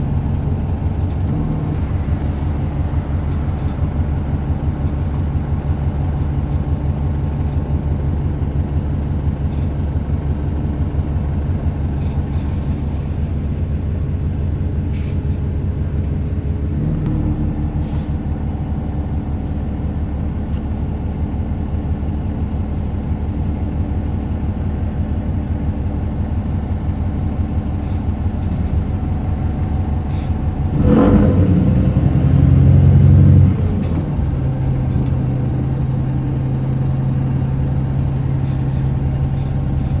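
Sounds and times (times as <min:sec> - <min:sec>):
bus engine grumbling: 0:00.0 - 0:40.0.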